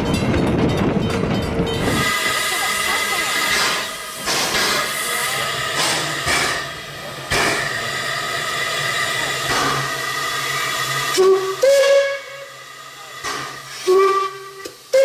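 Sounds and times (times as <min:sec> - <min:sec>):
steam locomotives hissing: 0:01.5 - 0:15.0.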